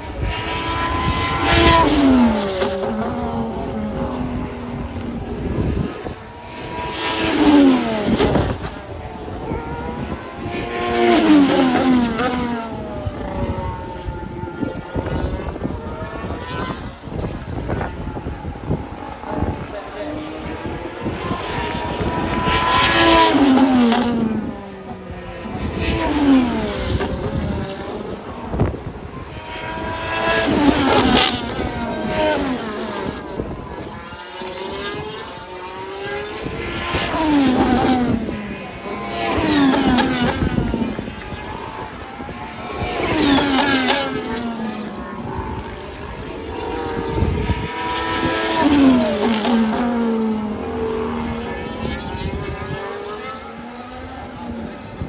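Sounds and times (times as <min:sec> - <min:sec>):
racing cars passing by: 0:00.0 - 0:55.0.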